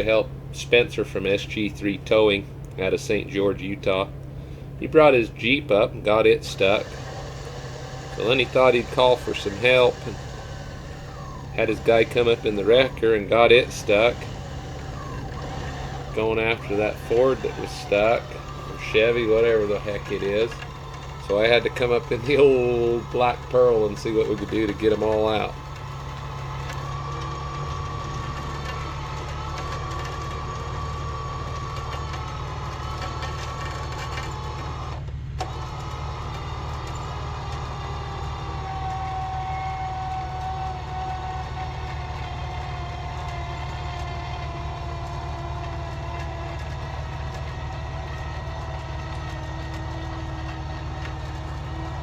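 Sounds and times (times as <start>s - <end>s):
high drivetrain whine: 0.0s - 52.0s
truck engine running: 0.0s - 52.0s.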